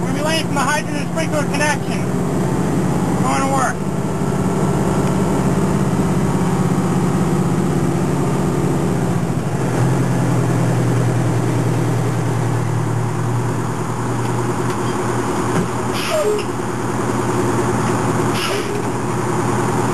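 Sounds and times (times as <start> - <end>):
truck engine hum from cab: 0.0 - 19.9.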